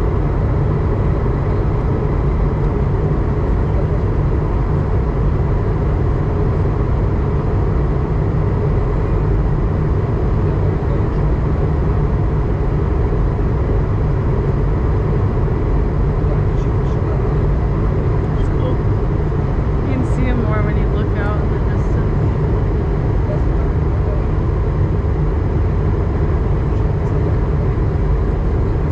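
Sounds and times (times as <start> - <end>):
faint steady hum: 0.0 - 28.9
jet engine drone: 0.0 - 28.9.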